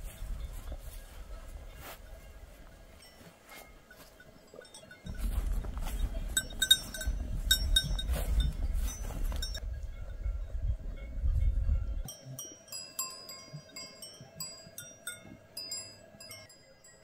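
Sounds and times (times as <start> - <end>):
livestock bells clinking: 0.0 - 17.0.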